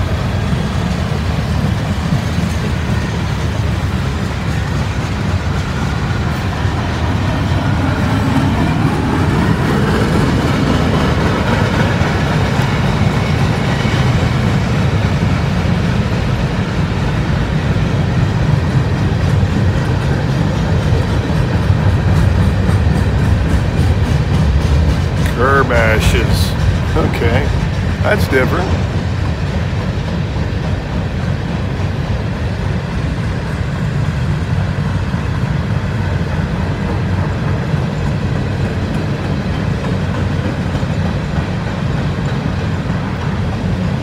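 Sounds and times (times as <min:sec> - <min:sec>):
freight train wheels rumbling: 0:00.0 - 0:44.0.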